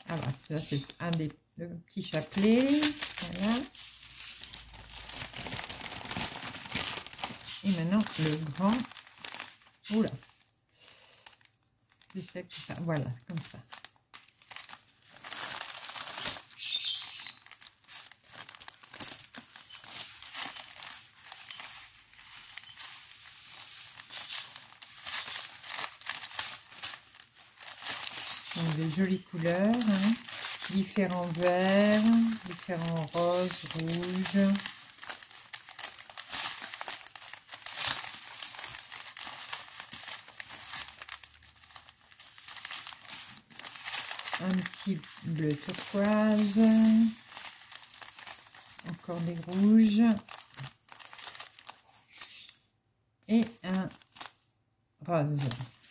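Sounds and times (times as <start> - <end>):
plastic bags crinkling: 0.0 - 52.6, 53.3 - 54.4, 55.3 - 55.9.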